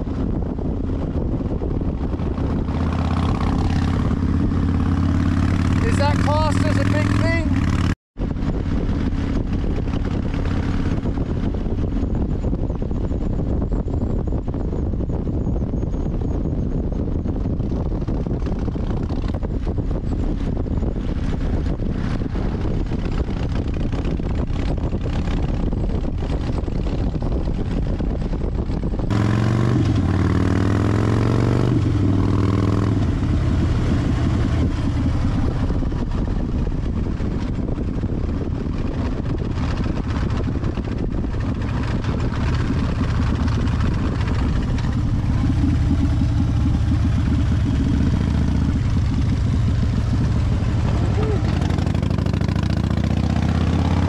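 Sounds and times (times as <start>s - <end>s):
motorcycle engine accelerating: 0.0s - 54.0s
wind rushing over microphone: 0.0s - 54.0s.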